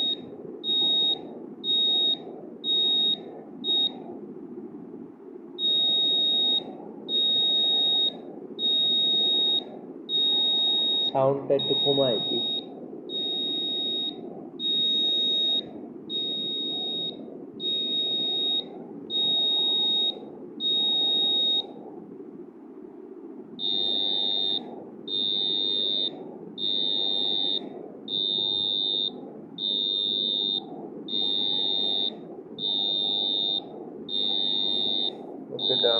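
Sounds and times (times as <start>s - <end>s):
high-pitched buzzer beeps: 0.0s - 4.0s, 5.6s - 21.8s, 23.6s - 35.9s.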